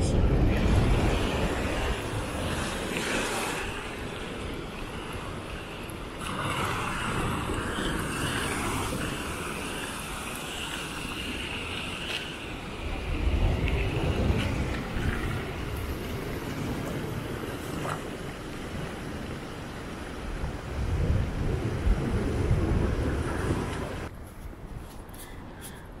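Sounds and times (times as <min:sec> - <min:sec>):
waves splashing against a pier: 0:00.0 - 0:24.1
wind on microphone: 0:00.0 - 0:26.0.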